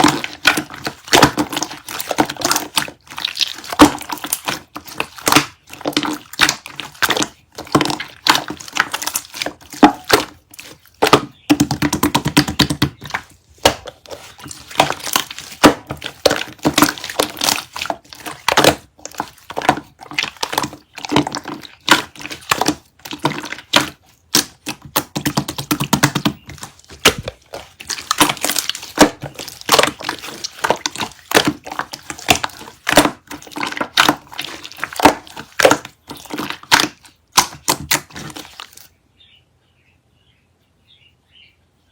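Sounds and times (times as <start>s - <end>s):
slime squeezed with sticky pops: 0.0s - 38.9s.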